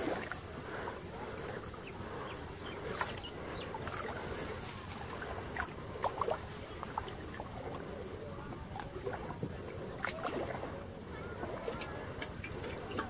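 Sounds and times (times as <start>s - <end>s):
water sloshing around person wading: 0.0s - 13.0s
water splashes and drips: 0.0s - 13.0s.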